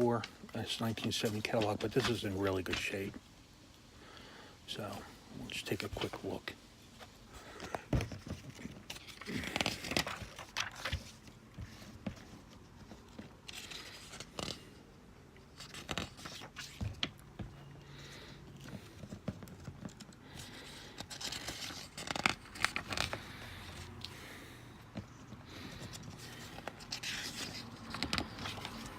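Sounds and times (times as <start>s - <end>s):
paper pages rustling: 0.2s - 3.2s, 5.6s - 14.8s, 15.4s - 17.3s, 17.9s - 28.9s.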